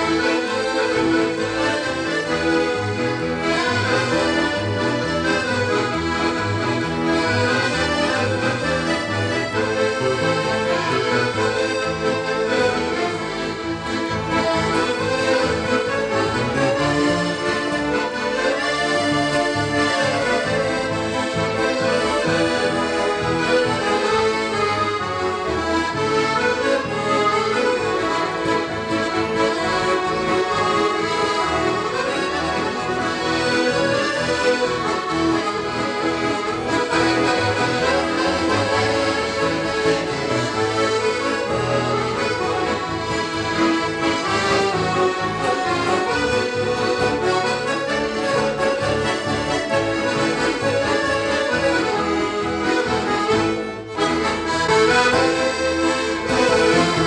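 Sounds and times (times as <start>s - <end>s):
accordions playing a tune: 0.0s - 57.0s.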